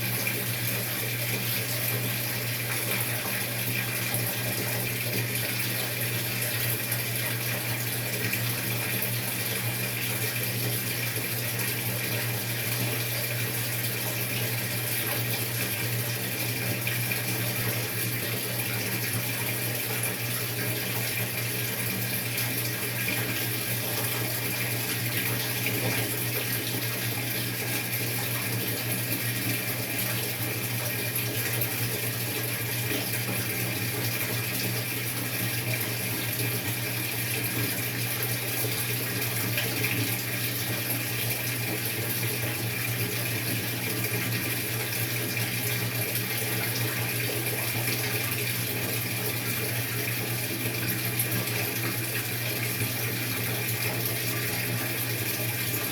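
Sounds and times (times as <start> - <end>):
water rushing into washing machine: 0.0 - 55.9.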